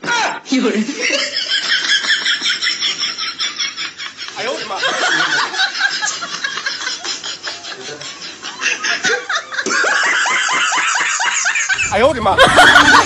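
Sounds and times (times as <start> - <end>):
people laughing: 0.9 - 13.0.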